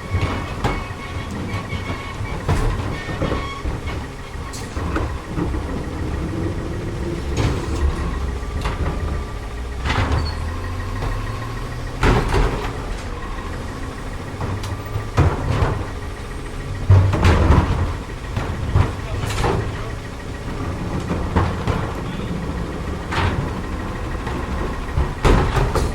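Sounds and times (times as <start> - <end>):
bangs and knocks: 0.0 - 25.9
garbage truck engine idling: 0.0 - 25.9.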